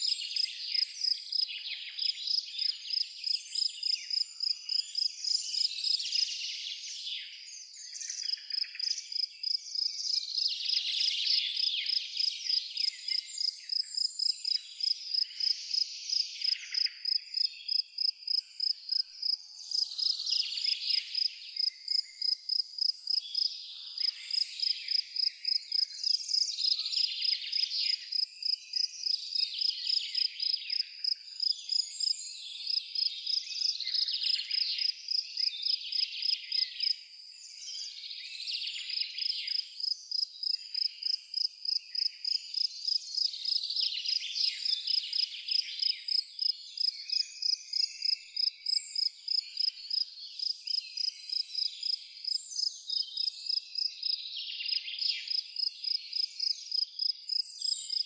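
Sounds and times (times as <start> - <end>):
insect chirping: 0.0 - 38.0, 38.8 - 58.0.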